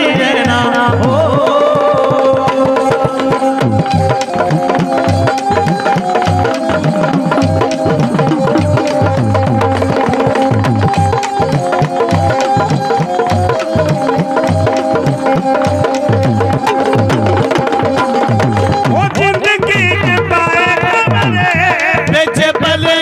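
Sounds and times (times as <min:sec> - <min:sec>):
fast hand drum beat: 0:00.0 - 0:23.0
high wavering melody: 0:02.6 - 0:21.4.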